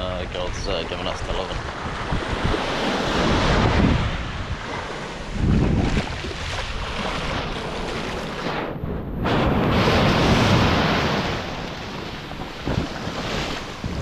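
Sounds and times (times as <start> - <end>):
wind buffeting microphone: 0.0 - 14.0
surf breaking on a beach: 0.2 - 14.0.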